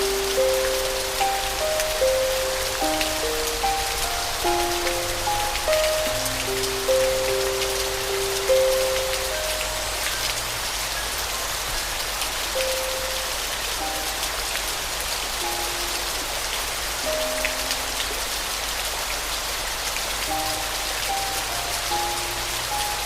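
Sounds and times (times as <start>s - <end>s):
soft piano notes: 0.0s - 19.0s, 20.1s - 23.0s
steady rain falling: 0.0s - 23.0s.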